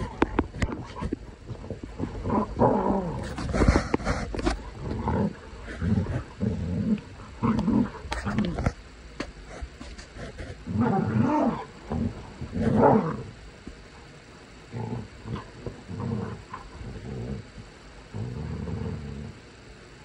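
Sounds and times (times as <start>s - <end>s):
dogs growling: 0.0s - 19.6s.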